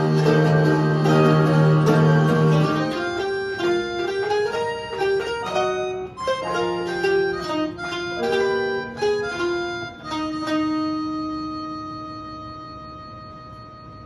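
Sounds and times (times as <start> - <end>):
plucked string melody: 0.0 - 13.6
sustained accompanying tones: 0.0 - 14.0.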